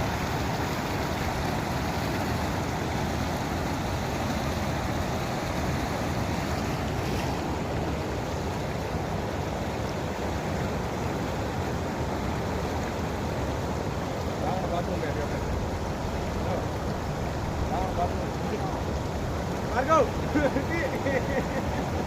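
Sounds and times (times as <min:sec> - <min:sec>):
water rushing over weir: 0:00.0 - 0:22.0.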